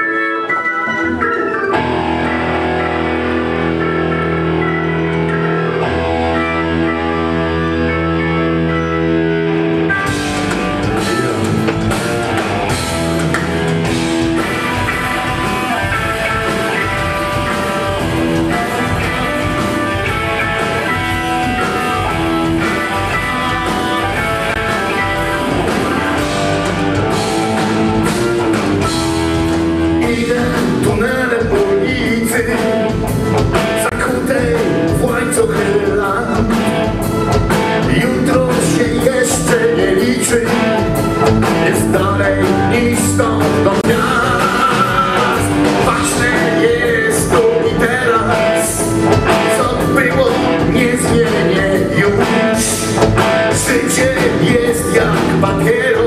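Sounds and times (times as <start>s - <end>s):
blues-rock band playing: 0.0s - 56.0s
drum kit: 0.0s - 56.0s
electric guitar: 0.0s - 56.0s.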